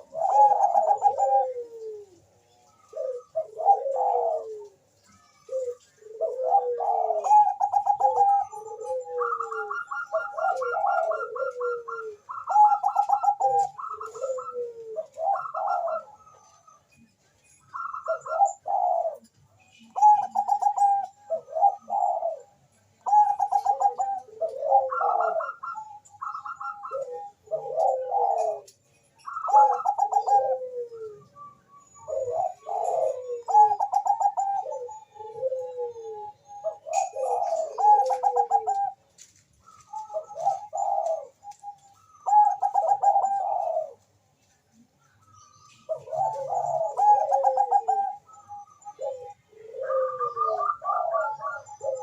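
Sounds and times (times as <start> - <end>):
doves cooing in trilled phrases: 0.0 - 52.0.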